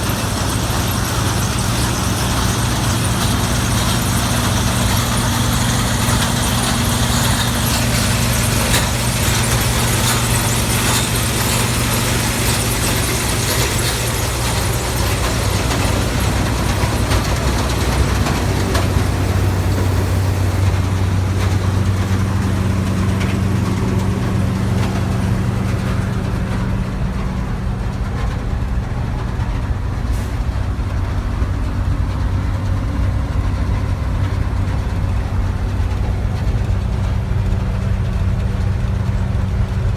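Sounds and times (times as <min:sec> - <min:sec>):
diesel engine running: 0:00.0 - 0:39.9
hissing machinery noise: 0:00.0 - 0:39.9.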